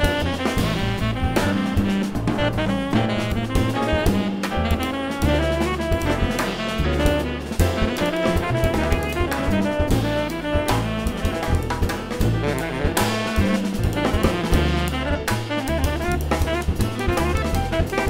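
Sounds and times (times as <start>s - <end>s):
drum kit steady beat: 0.0s - 18.0s
saxophone playing: 0.0s - 18.0s.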